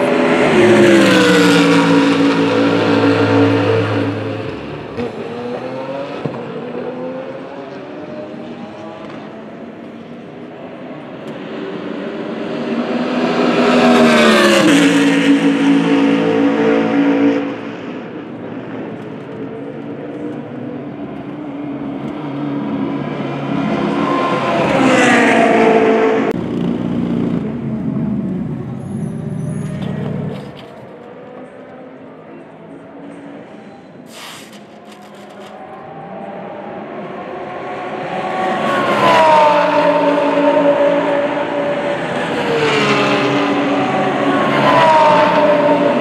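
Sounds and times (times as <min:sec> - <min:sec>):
race car engines passing: 0:00.0 - 0:46.0.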